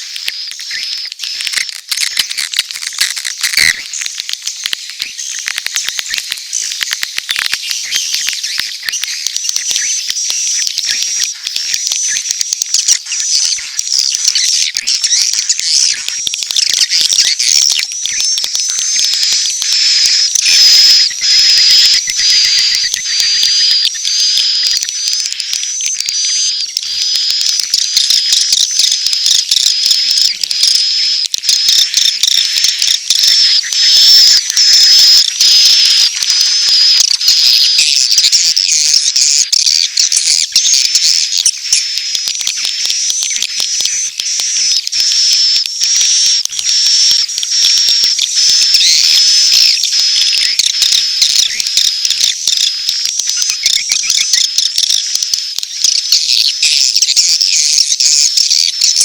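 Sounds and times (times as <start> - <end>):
swiftlet colony chattering: 0.0 - 59.0.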